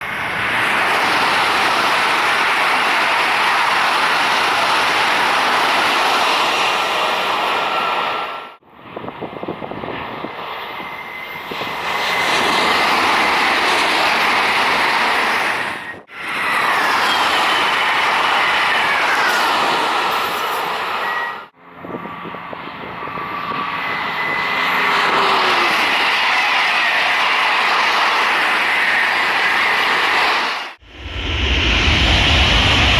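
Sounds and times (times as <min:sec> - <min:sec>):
high-speed train roaring past: 0:00.0 - 0:32.9.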